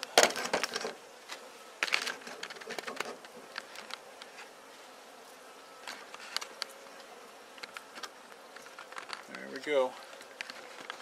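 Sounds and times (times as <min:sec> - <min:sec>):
bees buzzing: 0:00.0 - 0:11.0
light clicks and rustles: 0:00.4 - 0:04.6, 0:05.8 - 0:11.0.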